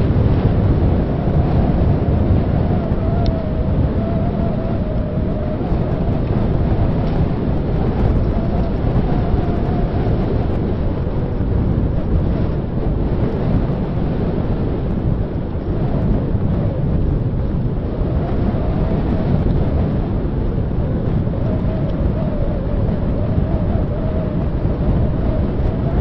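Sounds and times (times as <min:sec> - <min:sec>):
faint wavering whine: 0:00.0 - 0:26.0
wind buffeting microphone: 0:00.0 - 0:26.0.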